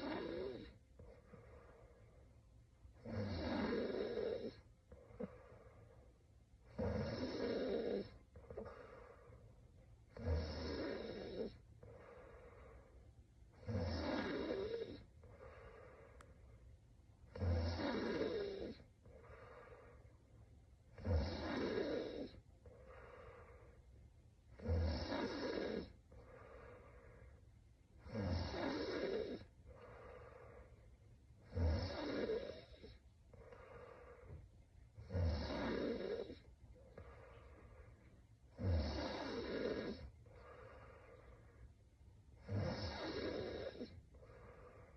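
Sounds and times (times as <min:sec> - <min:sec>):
woman snoring: 0:00.0 - 0:01.8, 0:03.0 - 0:06.0, 0:06.6 - 0:09.4, 0:10.1 - 0:12.9, 0:13.5 - 0:16.3, 0:17.3 - 0:20.1, 0:20.9 - 0:23.8, 0:24.5 - 0:27.4, 0:28.0 - 0:30.8, 0:31.4 - 0:34.4, 0:35.0 - 0:37.9, 0:38.5 - 0:41.6, 0:42.3 - 0:44.9
soft breathing: 0:00.0 - 0:44.9.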